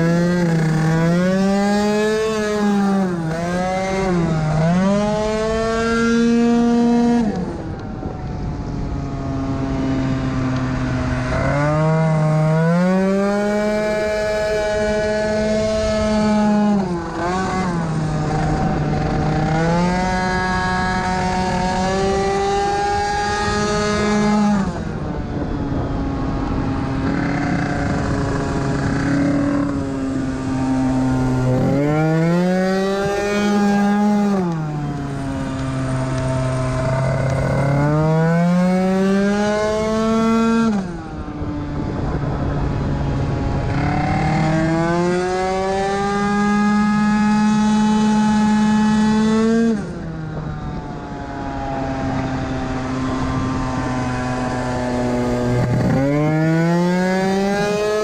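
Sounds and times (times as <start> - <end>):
scooter two-stroke engine revving: 0.0 - 8.1, 8.7 - 58.0.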